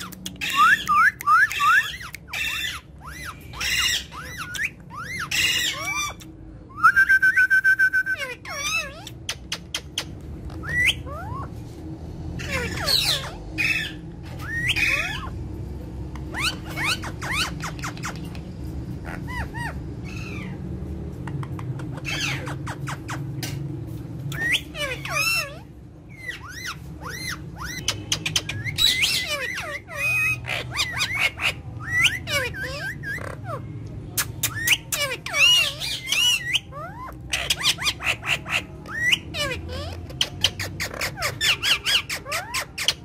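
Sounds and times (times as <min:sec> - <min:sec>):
parakeets squawking and chirping: 0:00.0 - 0:06.7, 0:08.1 - 0:43.0
steady low hum: 0:00.0 - 0:34.9.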